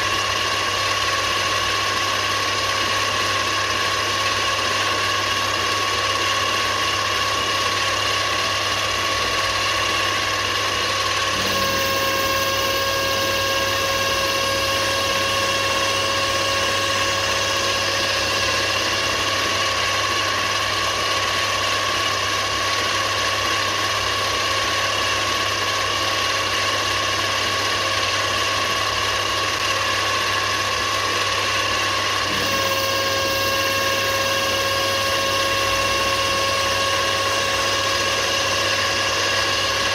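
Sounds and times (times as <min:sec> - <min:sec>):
electric motor hum and whine: 0:00.0 - 0:39.9.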